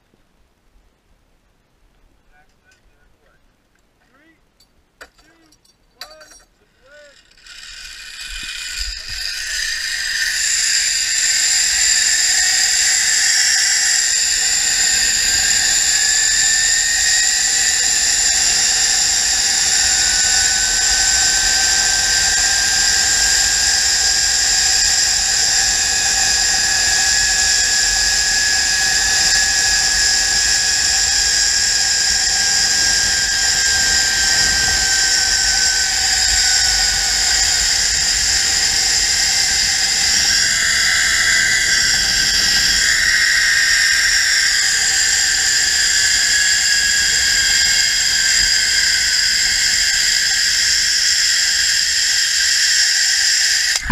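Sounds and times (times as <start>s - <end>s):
zipline pulleys whining: 6.8s - 53.9s.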